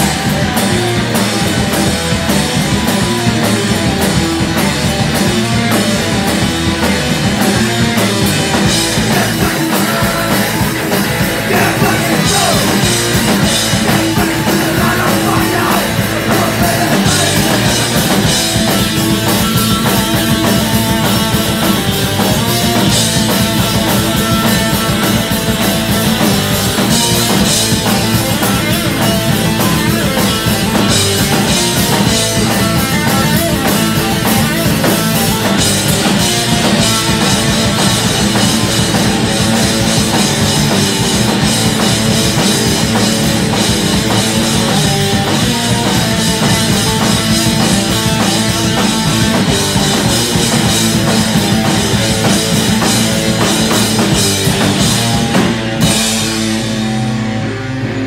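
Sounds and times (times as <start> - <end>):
drum kit: 0.0 - 58.0
electric bass: 0.0 - 58.0
electric guitars: 0.0 - 58.0.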